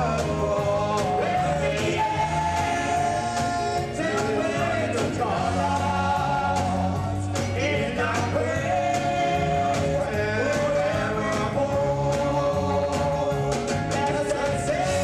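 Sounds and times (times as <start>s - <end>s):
gospel choir singing: 0.0s - 15.0s.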